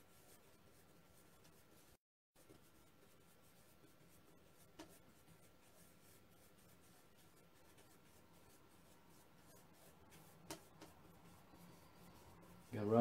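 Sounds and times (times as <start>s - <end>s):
paintbrush strokes on canvas: 0.0s - 13.0s.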